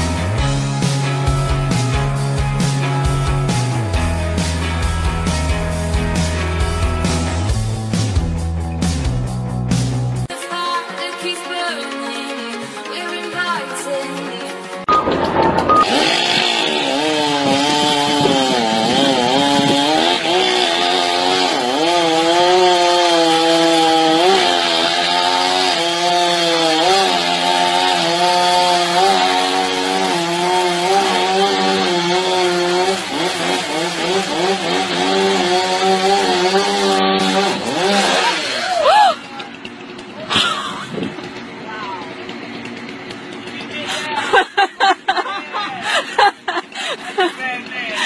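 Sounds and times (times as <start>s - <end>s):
chainsaw running: 0.0s - 10.3s, 15.7s - 48.0s.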